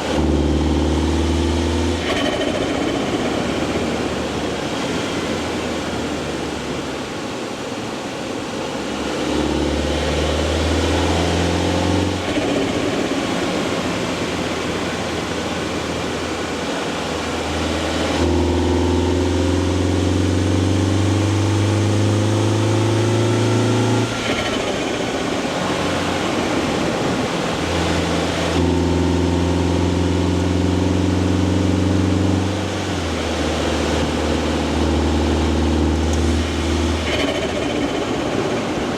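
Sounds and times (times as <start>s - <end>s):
car engine pulling under load: 0.0s - 38.9s.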